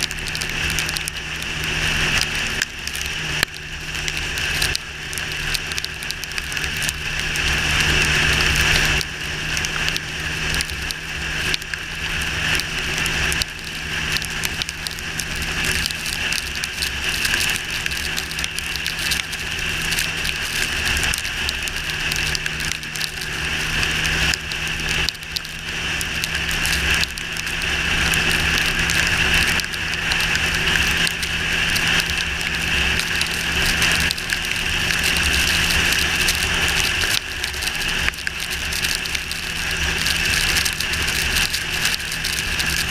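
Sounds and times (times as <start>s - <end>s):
motorcycle engine running: 0.0s - 42.9s
wind and rain hiss: 0.0s - 42.9s.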